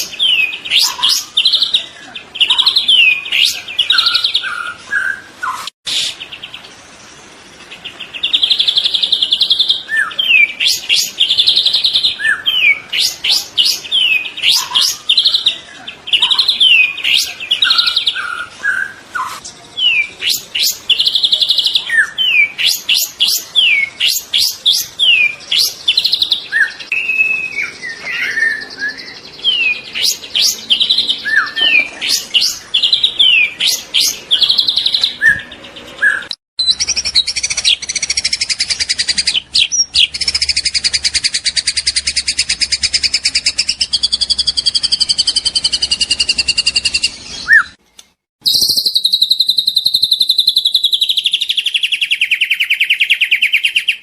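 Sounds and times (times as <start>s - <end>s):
bird whistling and chirping: 2.4s - 6.2s, 8.2s - 15.5s, 16.2s - 47.8s, 48.4s - 54.0s.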